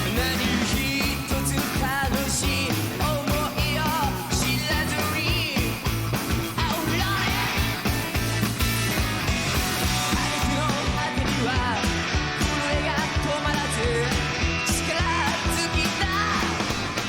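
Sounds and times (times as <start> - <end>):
person singing: 0.0 - 5.8, 6.5 - 8.5, 9.8 - 16.8
rock band playing: 0.0 - 17.0.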